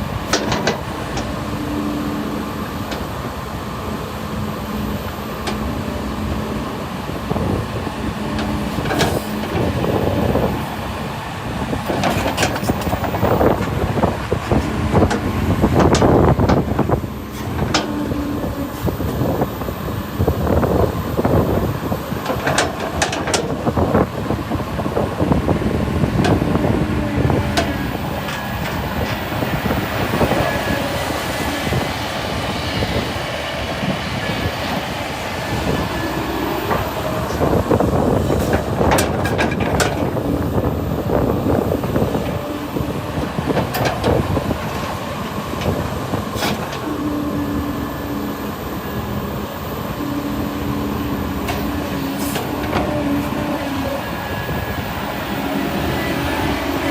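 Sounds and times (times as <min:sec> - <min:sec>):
excavator diesel engines running: 0:00.0 - 0:56.9.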